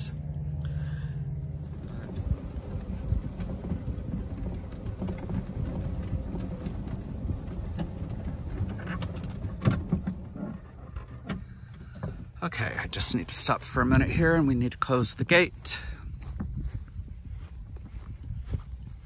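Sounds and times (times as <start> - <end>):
golf cart rumbling: 0.0 - 19.0.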